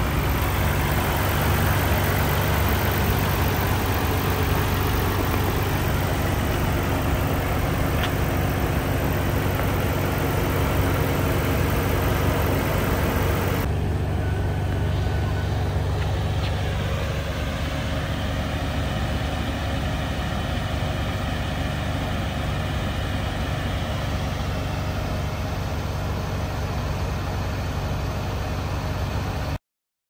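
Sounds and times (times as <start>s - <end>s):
car engine idling: 0.0s - 29.6s.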